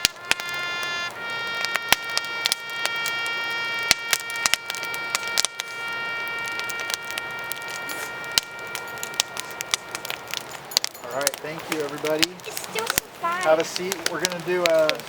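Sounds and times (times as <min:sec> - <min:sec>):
steady pitched tone: 0:00.0 - 0:13.3
fire crackling and popping: 0:00.0 - 0:15.0.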